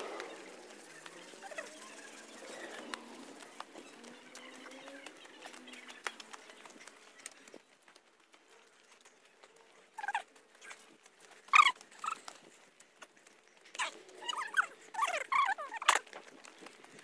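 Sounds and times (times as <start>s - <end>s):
footsteps on stone steps: 2.3s - 17.0s.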